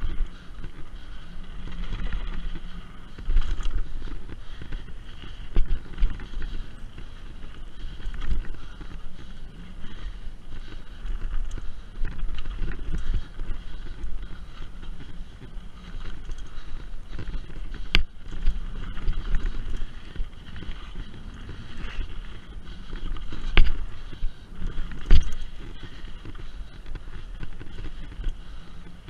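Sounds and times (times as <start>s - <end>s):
bike tyres rumbling on dirt: 0.0s - 29.0s.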